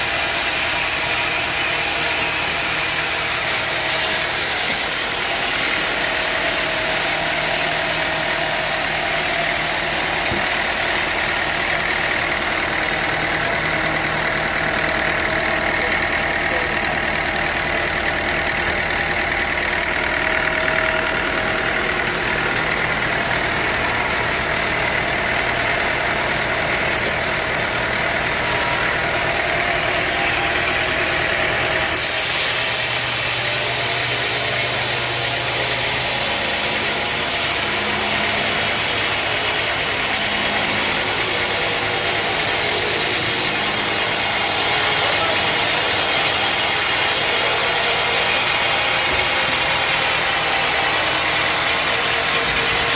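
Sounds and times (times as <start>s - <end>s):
sawmill machinery drone: 0.0s - 52.9s.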